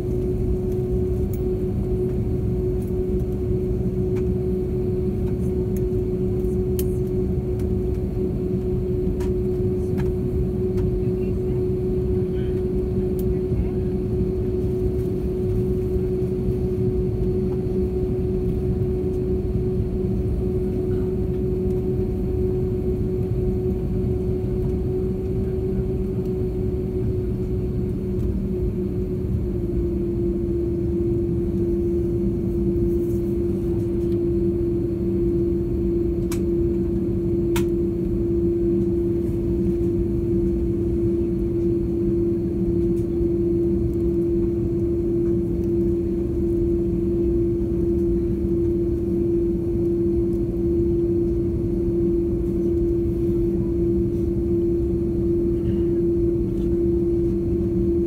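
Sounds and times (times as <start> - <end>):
airliner engine hum in cabin: 0.0 - 58.0.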